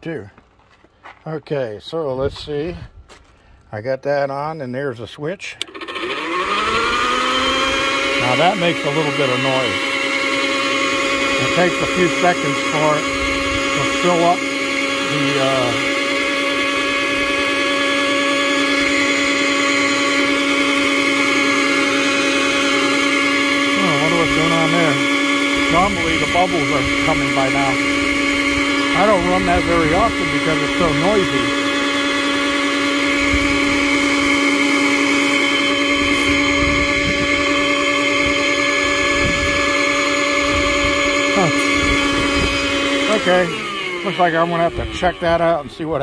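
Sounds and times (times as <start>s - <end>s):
blower motor humming and whining: 5.6s - 46.0s.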